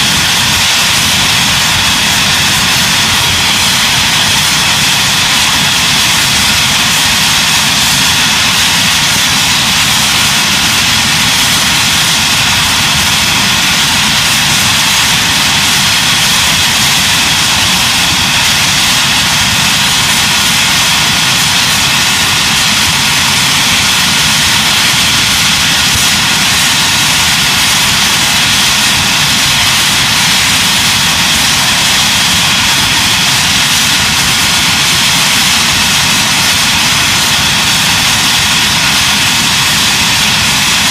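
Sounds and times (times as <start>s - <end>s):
high jet whine: 0.0s - 40.9s
jet engines roaring: 0.0s - 40.9s.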